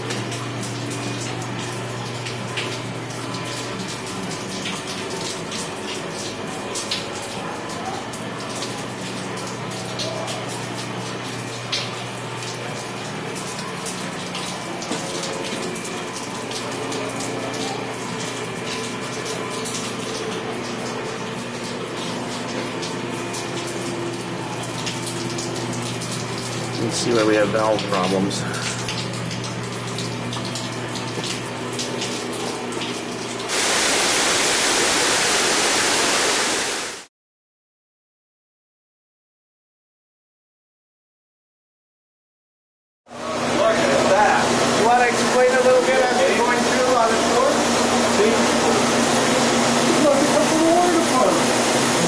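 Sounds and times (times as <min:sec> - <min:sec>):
pump humming: 0:00.0 - 0:37.1, 0:43.1 - 0:52.0
water rushing in a tank: 0:00.0 - 0:37.1, 0:43.1 - 0:52.0.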